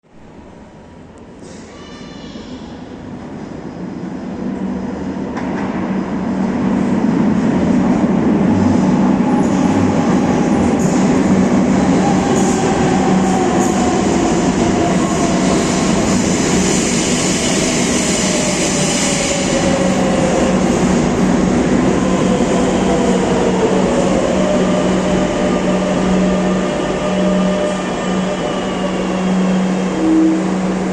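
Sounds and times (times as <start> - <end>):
falling whine of train: 0.2 - 30.9
electric train pulling into station: 0.3 - 30.9.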